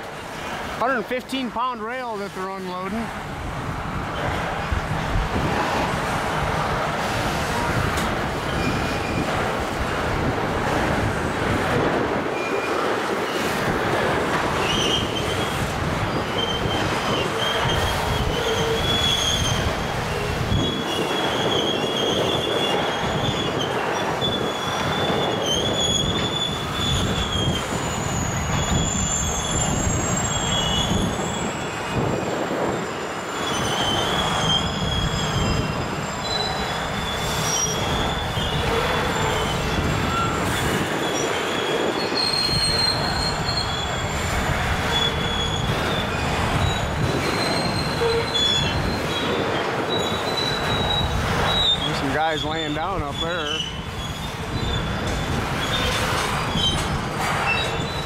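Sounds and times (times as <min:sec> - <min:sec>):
rail cars rumbling: 0:00.0 - 0:58.0
wind buffeting microphone: 0:02.9 - 0:58.0
wheel squeal: 0:07.5 - 0:09.6, 0:12.3 - 0:13.7, 0:14.4 - 0:58.0.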